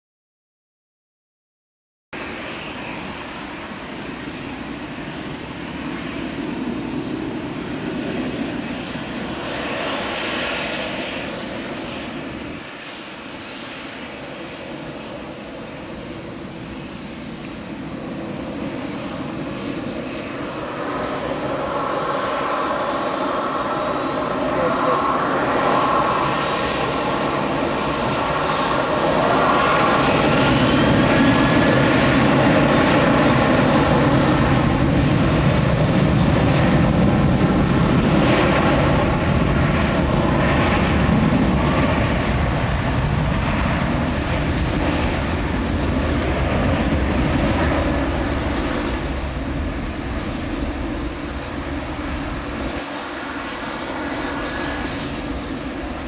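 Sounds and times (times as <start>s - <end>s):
high engine whine: 2.2s - 56.0s
jet engines passing: 2.2s - 56.0s.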